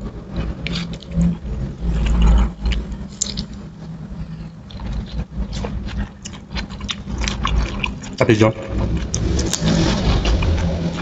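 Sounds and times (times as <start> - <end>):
close chewing and mouth sounds: 0.0 - 11.0
low rumble: 0.0 - 11.0
steady low hum: 0.0 - 11.0.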